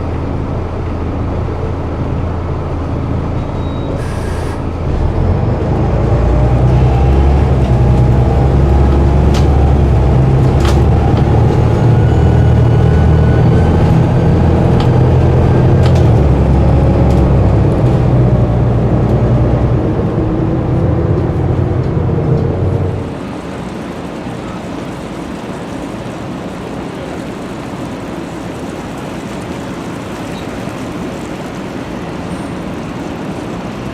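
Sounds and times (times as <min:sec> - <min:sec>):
bus diesel engine running: 0:00.0 - 0:33.9.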